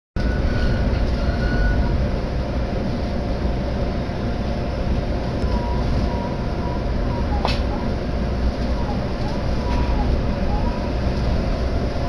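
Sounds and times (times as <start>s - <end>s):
train wheels rumbling on rails: 0.2s - 12.0s.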